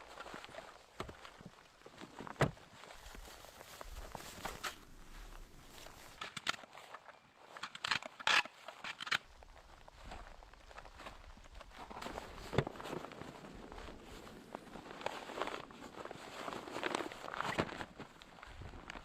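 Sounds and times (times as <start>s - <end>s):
footsteps crunching in snow: 0.0s - 7.7s, 8.5s - 19.0s.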